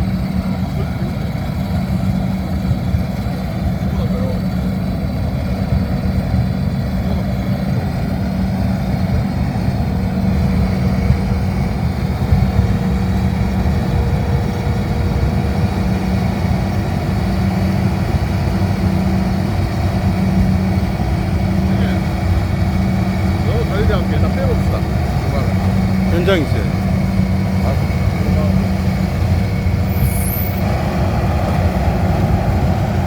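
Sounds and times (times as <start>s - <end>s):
combine harvester low hum: 0.0s - 33.0s.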